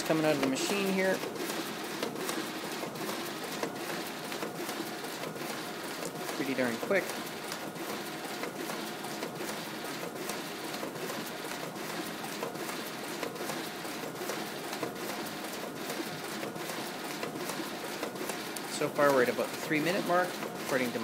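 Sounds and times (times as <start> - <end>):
printer mechanical whir: 0.0 - 21.0.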